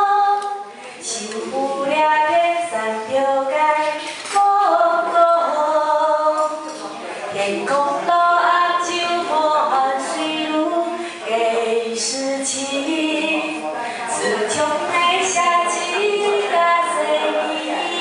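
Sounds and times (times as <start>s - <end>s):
woman singing into microphone: 0.0s - 18.0s.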